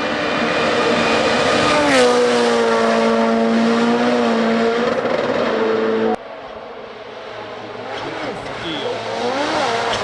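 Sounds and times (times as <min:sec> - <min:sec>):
rally car engine passing: 0:00.0 - 0:10.0.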